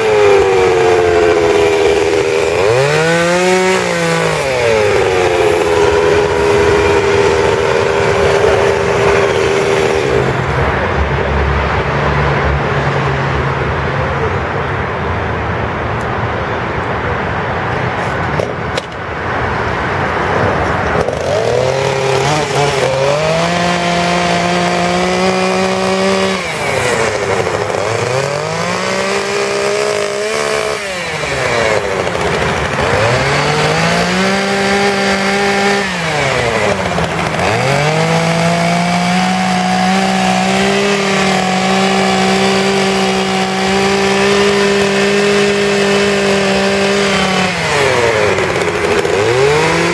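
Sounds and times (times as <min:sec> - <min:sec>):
chainsaw revving: 0:00.0 - 0:11.0, 0:20.9 - 0:49.9.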